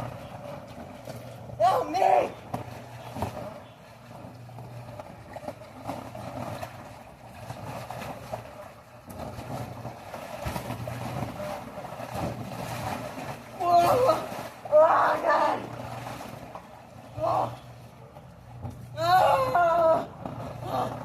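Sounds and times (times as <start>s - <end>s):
low hum: 0.0s - 21.0s
rushing churning water: 0.0s - 21.0s.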